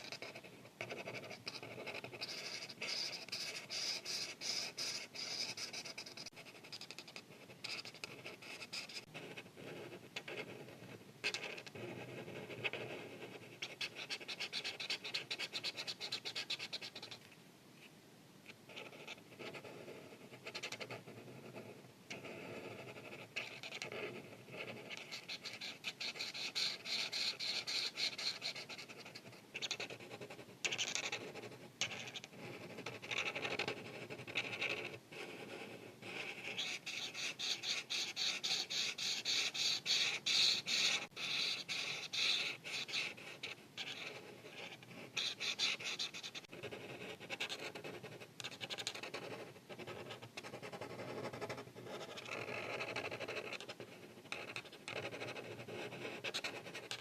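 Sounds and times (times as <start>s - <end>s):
marker rubbing on paper: 0.0s - 17.2s, 18.7s - 57.0s.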